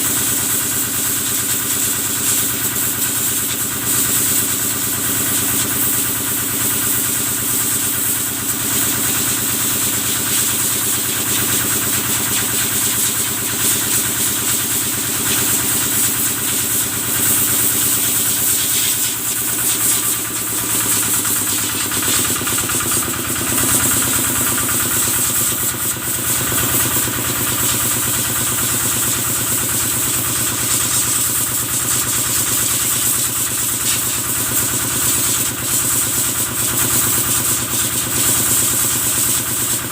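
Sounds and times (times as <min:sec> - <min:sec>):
engine running steadily: 0:00.0 - 0:39.9
water spray hissing: 0:00.0 - 0:39.9.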